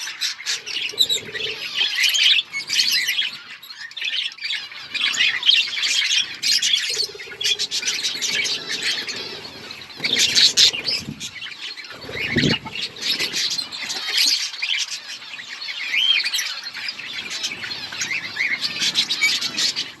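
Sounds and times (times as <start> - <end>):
budgerigars chirping: 0.0 - 20.0.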